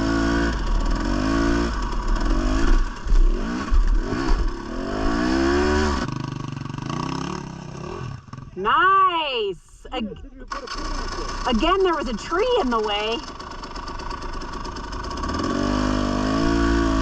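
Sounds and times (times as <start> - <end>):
dirt bike engine revving: 0.0 - 8.9, 9.9 - 17.0.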